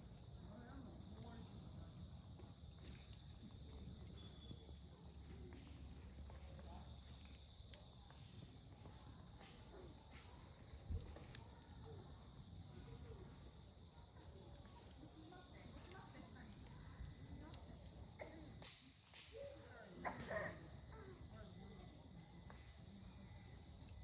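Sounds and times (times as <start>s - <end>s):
campfire crackling: 0.0s - 24.0s
insects chirping: 0.0s - 24.0s.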